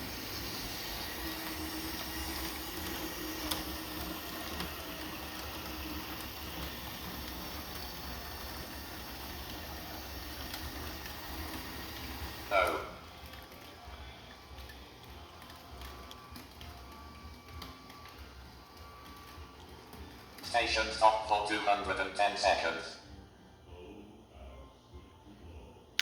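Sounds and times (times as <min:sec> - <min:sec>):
toy train whirring on track: 0:00.0 - 0:22.9.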